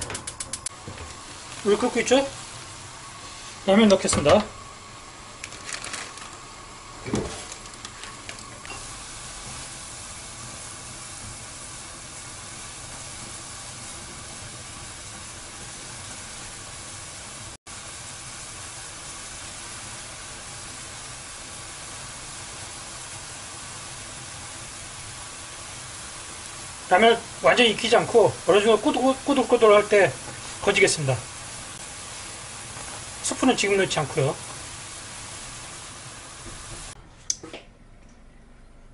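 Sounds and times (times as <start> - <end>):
water boiling and bubbling: 0.0 - 37.0.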